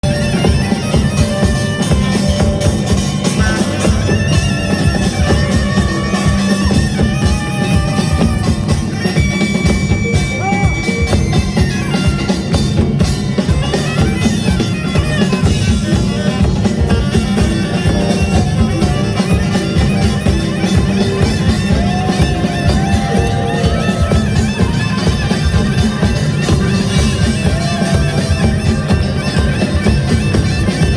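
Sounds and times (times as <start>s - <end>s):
drums and gongs playing: 0.0s - 30.9s
wind instrument melody: 0.0s - 30.9s.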